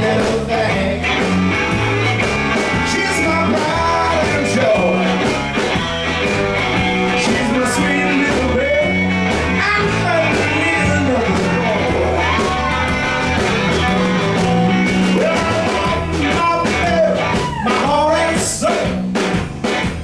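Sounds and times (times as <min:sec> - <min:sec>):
bass line: 0:00.0 - 0:20.0
drums playing shuffle beat: 0:00.0 - 0:20.0
electric guitars: 0:00.0 - 0:20.0.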